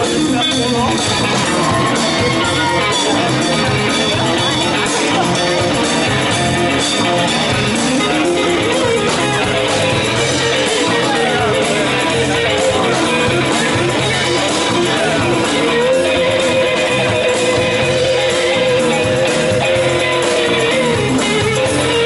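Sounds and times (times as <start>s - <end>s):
blues electric guitar solo: 0.0s - 22.0s
drum and cymbal hits: 0.0s - 22.0s
live band backing: 0.0s - 22.0s.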